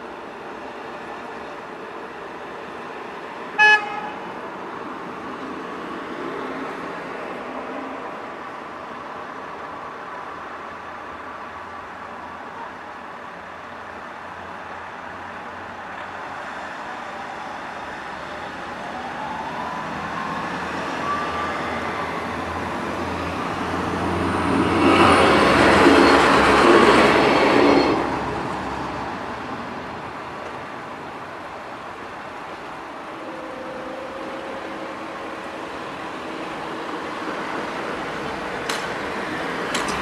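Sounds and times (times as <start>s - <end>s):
train passing: 0.0s - 40.0s.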